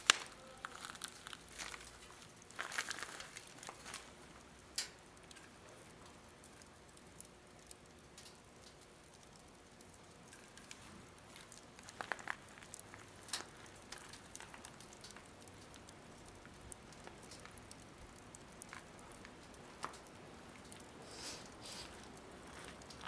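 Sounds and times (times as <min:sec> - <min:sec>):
faint fire hiss: 0:00.0 - 0:23.0
firewood crackling and popping: 0:00.0 - 0:23.0.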